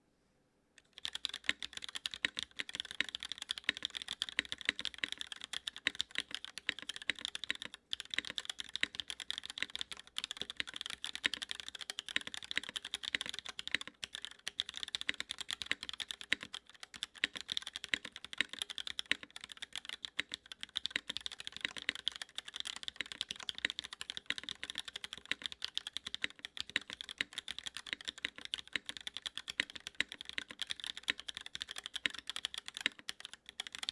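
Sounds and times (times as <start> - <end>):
mechanical keyboard typing: 0.8 - 33.9.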